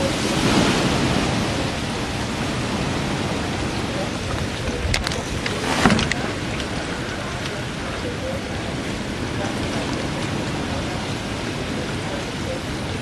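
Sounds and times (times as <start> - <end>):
heavy rain: 0.0 - 13.0
hurricane wind: 0.0 - 13.0.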